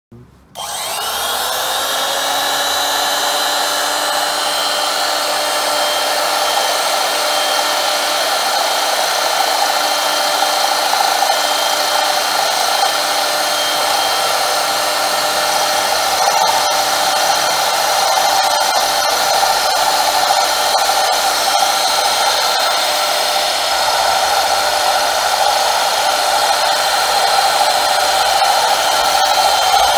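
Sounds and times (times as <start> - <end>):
lathe motor whining: 0.6 - 29.9.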